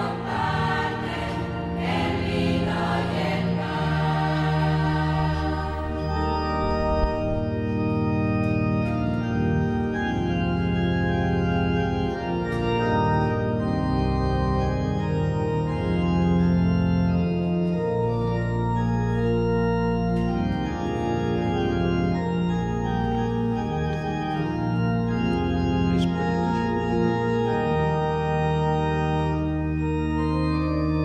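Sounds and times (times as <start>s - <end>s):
church organ chords: 0.0s - 31.0s.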